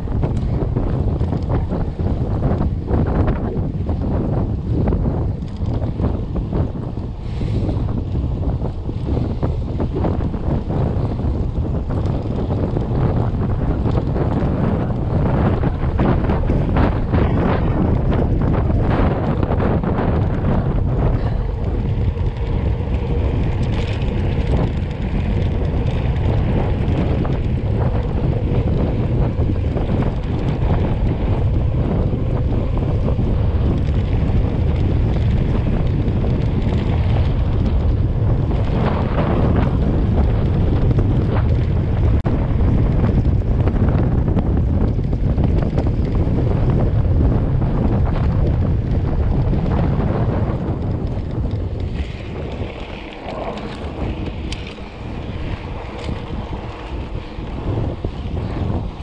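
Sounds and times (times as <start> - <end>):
tyres rolling on dirt road: 0.0 - 59.0
wind buffeting microphone: 0.0 - 59.0.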